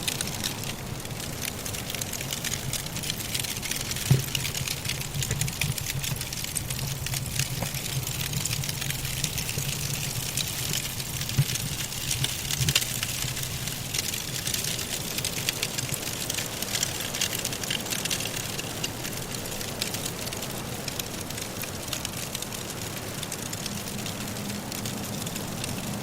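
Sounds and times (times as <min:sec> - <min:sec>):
soft blizzard wind: 0:00.0 - 0:26.0
wood logs crackling in fireplace: 0:00.0 - 0:26.0.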